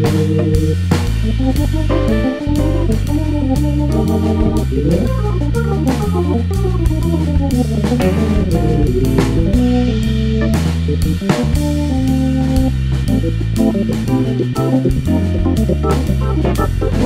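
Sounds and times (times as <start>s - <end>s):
bass line: 0.0s - 17.0s
steady drum beat: 0.0s - 17.0s
sustained melody notes: 0.0s - 17.0s.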